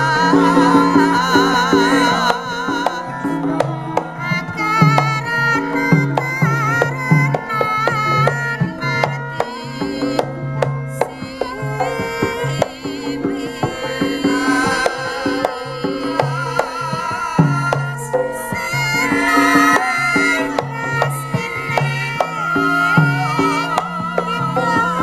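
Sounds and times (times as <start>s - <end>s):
gamelan music: 0.0s - 25.0s
hand drum strokes: 0.0s - 25.0s.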